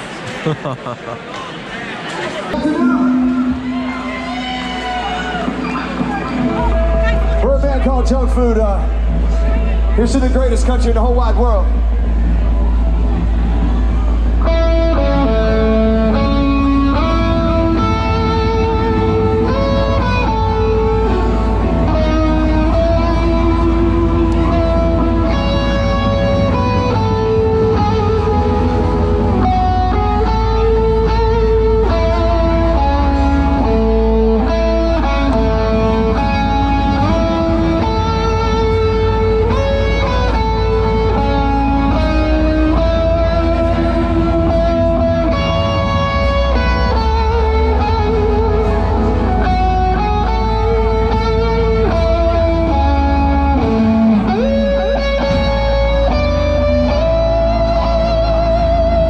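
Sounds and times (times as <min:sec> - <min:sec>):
live band through pa: 0:02.0 - 0:59.0
electric guitar: 0:02.5 - 0:07.8, 0:11.7 - 0:59.0
bass: 0:02.5 - 0:59.0.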